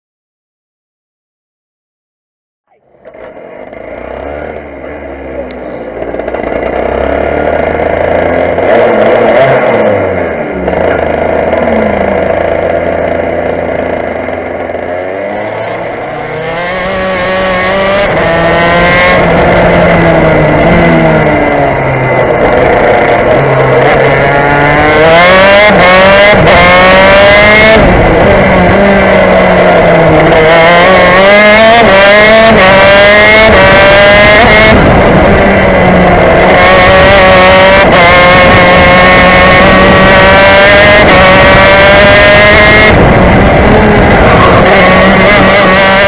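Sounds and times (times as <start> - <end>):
kart engine revving: 2.8 - 46.0.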